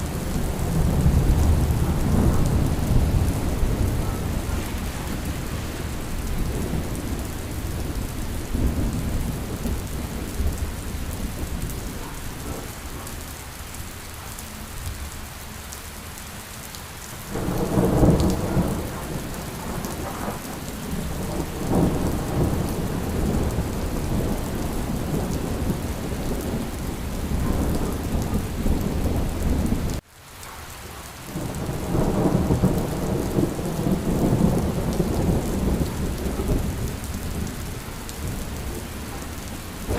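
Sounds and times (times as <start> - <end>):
rolling thunder: 0.0 - 13.0, 17.3 - 30.0, 31.4 - 39.9
steady rain falling: 0.0 - 39.9.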